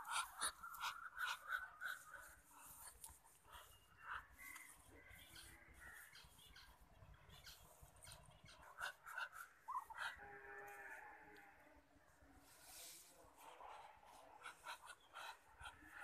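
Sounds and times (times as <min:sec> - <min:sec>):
ducks calling softly: 0:00.0 - 0:16.0.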